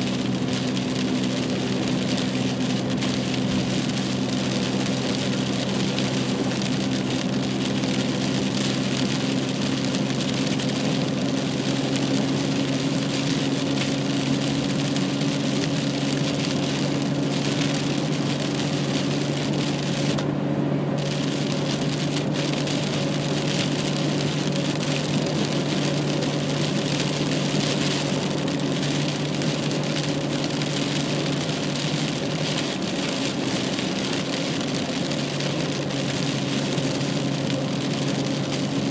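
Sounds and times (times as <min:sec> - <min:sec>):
engine and road drone: 0:00.0 - 0:38.9.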